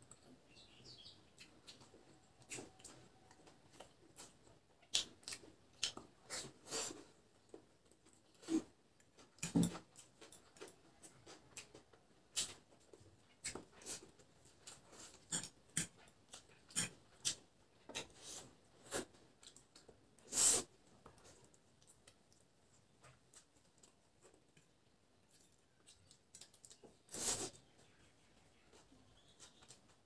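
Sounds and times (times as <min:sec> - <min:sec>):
person chewing: 0:01.3 - 0:27.6.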